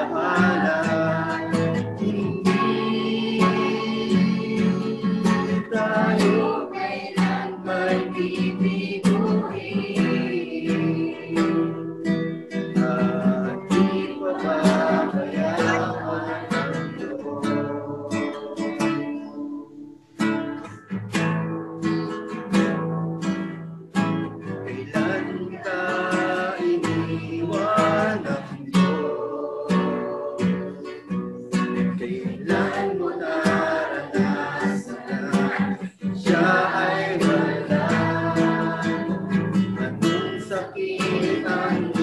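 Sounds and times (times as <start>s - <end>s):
person singing: 0.0s - 20.8s, 24.4s - 42.0s
acoustic guitar strumming: 0.0s - 42.0s.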